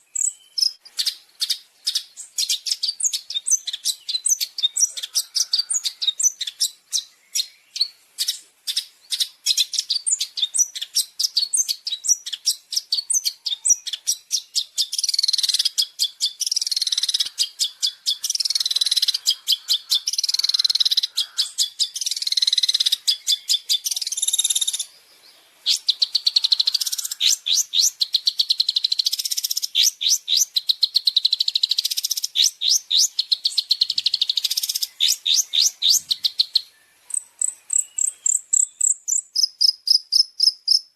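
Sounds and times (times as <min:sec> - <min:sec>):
bird chattering song: 0:00.0 - 0:40.9.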